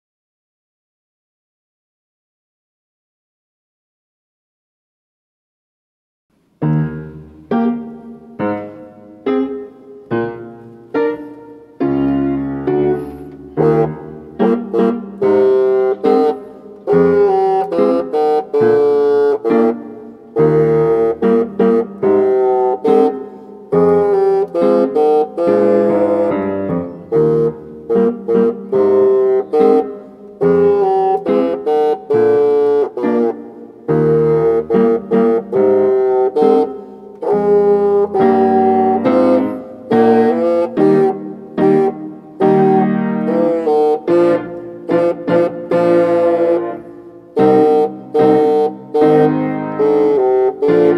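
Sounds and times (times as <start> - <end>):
piano accompaniment: 6.4 - 50.9
bassoon playing: 6.6 - 50.9.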